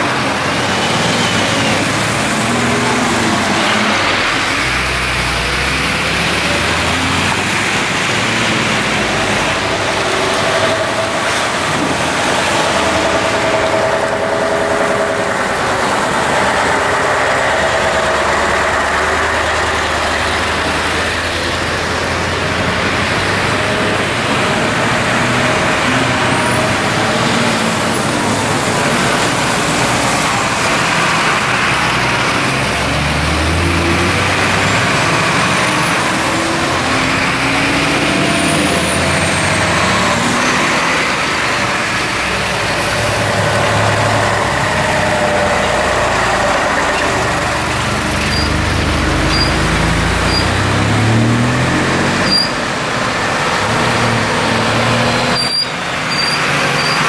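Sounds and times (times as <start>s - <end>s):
large vehicle engine running: 0.0s - 57.0s
road noise roar: 0.0s - 57.0s.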